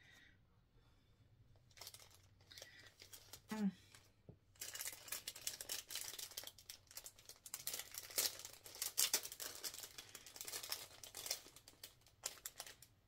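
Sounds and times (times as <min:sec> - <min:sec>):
plastic packaging crinkling: 0:01.6 - 0:13.0.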